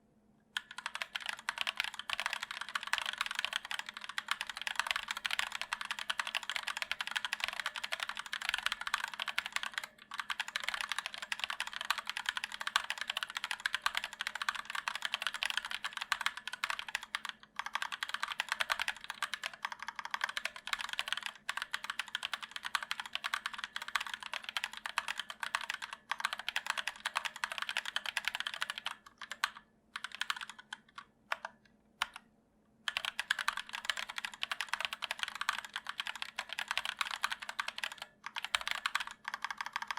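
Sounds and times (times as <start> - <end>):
mechanical keyboard typing: 0.6 - 32.2, 32.9 - 39.9.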